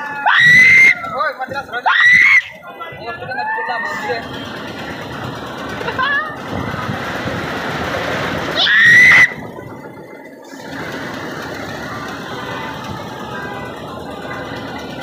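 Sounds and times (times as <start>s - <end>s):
fairground din: 0.0s - 15.0s.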